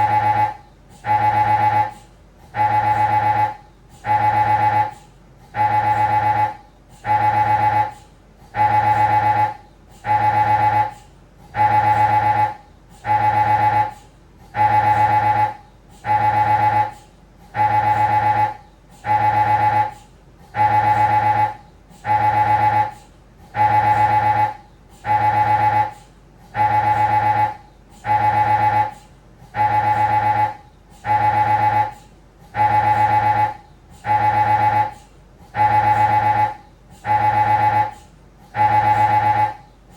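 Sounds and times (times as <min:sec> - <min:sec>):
mri scanner buzzing: 0:00.0 - 0:39.9.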